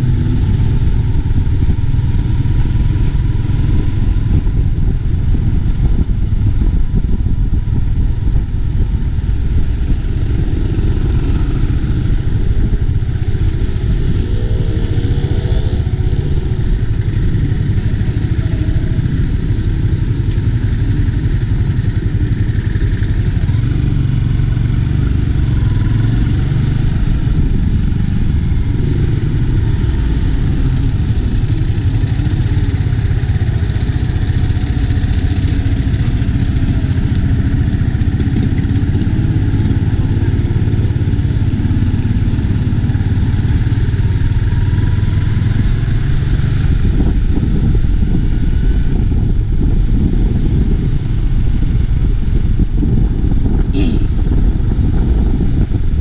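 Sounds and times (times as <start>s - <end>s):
low rumble of riding noise: 0.0s - 56.0s
moped engine running: 0.0s - 56.0s.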